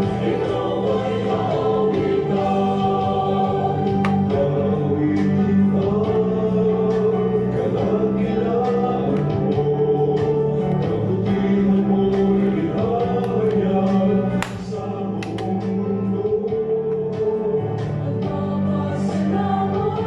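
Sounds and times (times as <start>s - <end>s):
choral gospel music with singing: 0.0s - 20.0s.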